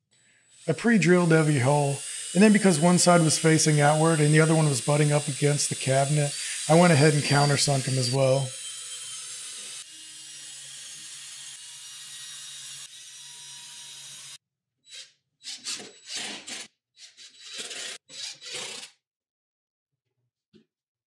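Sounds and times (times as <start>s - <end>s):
cordless drill boring into wood: 0.5s - 14.4s, 15.5s - 19.0s.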